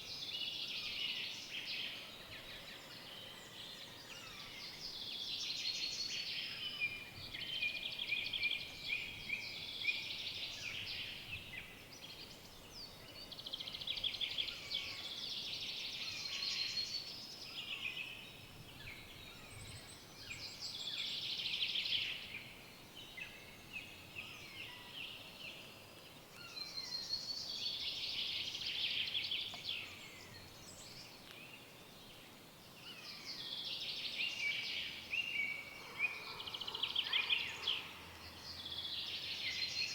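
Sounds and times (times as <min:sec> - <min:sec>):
faint steady hiss: 0:00.0 - 0:39.9
forest birds singing: 0:00.0 - 0:39.9.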